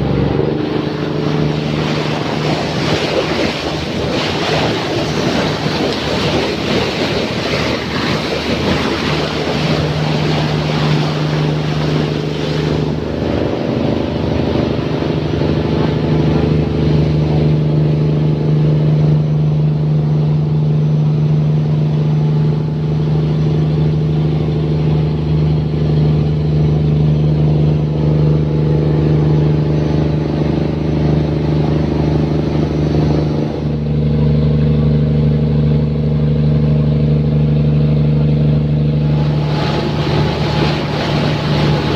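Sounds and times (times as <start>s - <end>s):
boat engine humming: 0.0s - 41.9s
rushing water: 0.0s - 41.9s.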